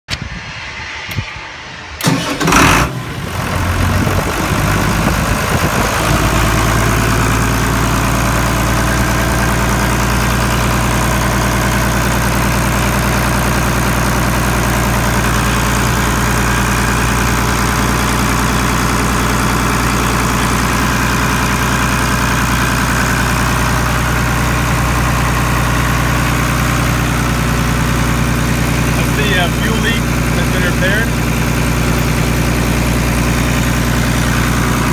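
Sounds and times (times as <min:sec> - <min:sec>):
truck engine starting and idling: 0:02.0 - 0:34.9.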